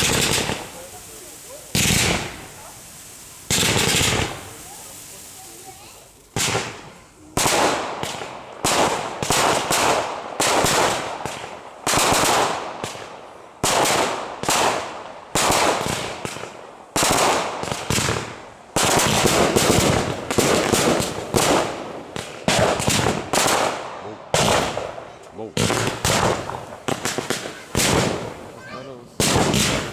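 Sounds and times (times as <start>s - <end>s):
fireworks bangs with rolling echo: 0.0s - 29.9s.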